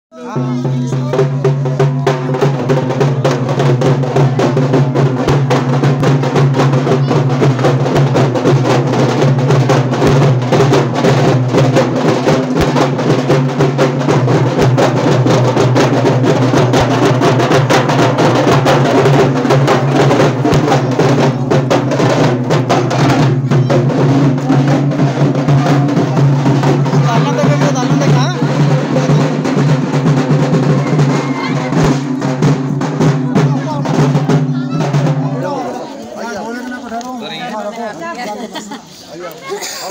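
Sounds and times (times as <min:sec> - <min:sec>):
loud rapid drumming: 0:00.2 - 0:35.9.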